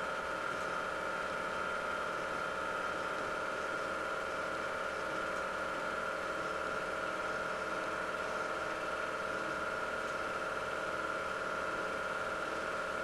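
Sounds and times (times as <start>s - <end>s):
film projector humming: 0.0s - 13.0s.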